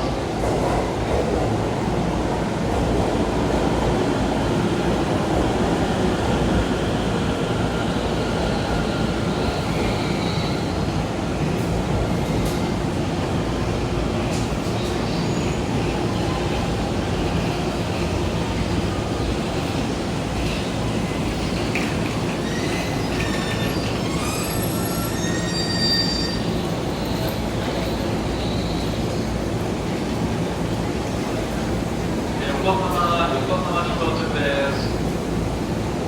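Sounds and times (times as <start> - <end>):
train running along platform: 0.0 - 36.0.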